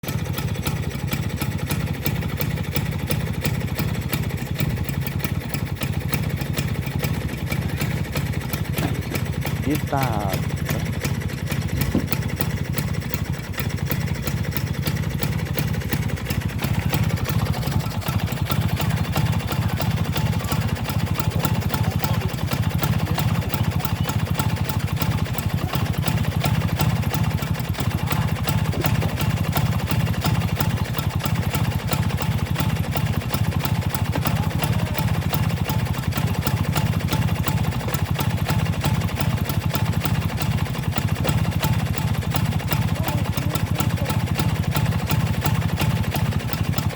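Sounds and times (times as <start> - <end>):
scooter engine running: 0.0 - 46.9.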